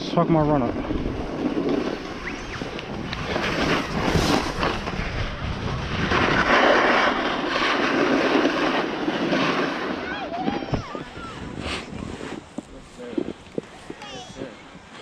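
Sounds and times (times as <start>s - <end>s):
snowboard scraping over snow: 0.0s - 15.0s
wind rushing over microphone: 0.0s - 15.0s.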